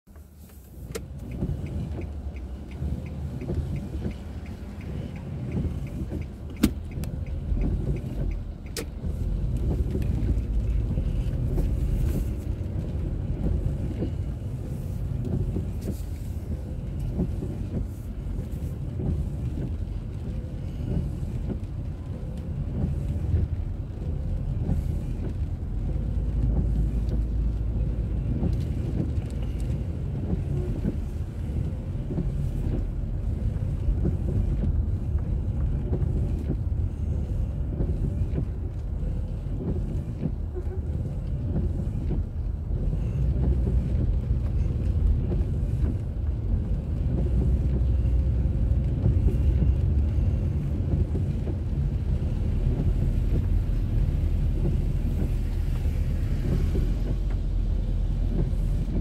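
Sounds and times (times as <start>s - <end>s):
car engine and tyres rumble: 0.0s - 59.0s
light rapid ticking: 0.9s - 53.6s.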